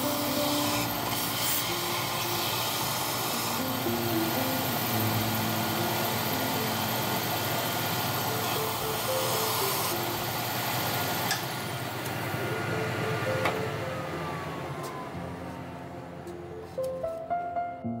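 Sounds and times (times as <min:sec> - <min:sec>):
belt sander whirring: 0:00.0 - 0:16.3.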